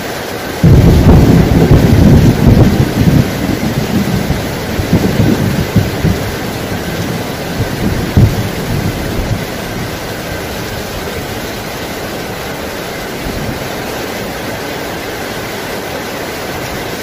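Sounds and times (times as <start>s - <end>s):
heavy rain: 0.0s - 17.0s
stream running over rocks: 0.0s - 17.0s
thunder rumble: 0.6s - 15.3s.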